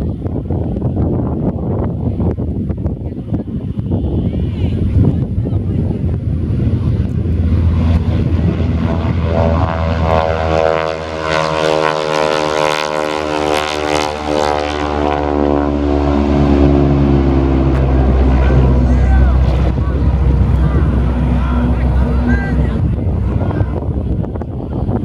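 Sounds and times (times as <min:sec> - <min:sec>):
wind rumble on microphone: 0:00.0 - 0:25.0
propeller plane engine passing by: 0:03.5 - 0:25.0.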